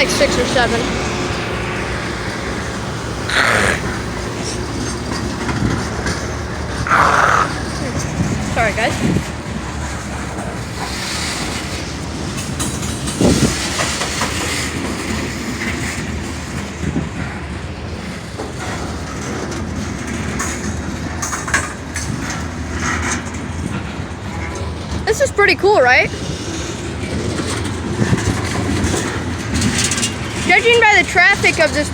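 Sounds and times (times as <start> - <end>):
low diesel rumble: 0.0 - 31.9
train wheels clacking over rail joints: 0.0 - 31.9.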